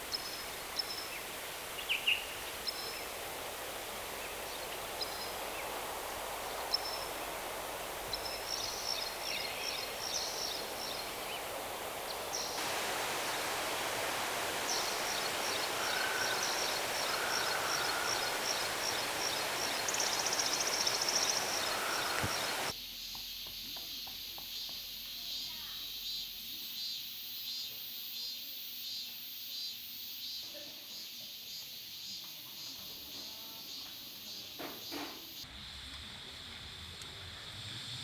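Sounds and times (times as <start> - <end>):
steady forest hiss: 0.0 - 23.1, 24.8 - 38.0.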